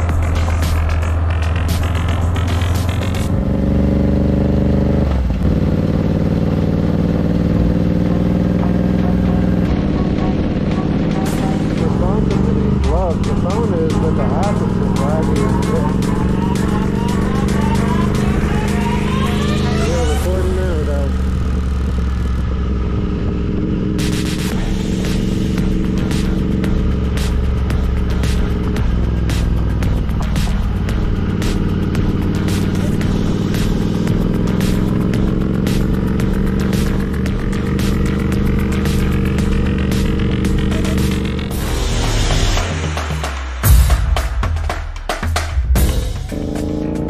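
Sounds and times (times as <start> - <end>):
motorcycle engine running: 0.0 - 41.8, 45.6 - 47.0.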